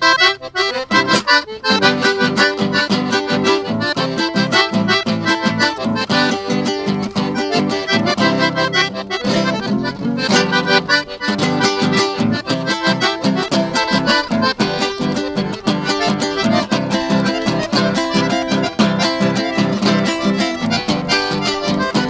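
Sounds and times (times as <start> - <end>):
accordion playing lively tune: 0.0 - 22.0.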